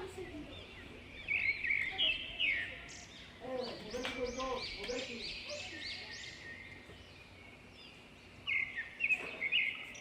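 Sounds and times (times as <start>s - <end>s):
faint outdoor hiss: 0.0s - 10.0s
small birds chirping: 0.0s - 10.0s.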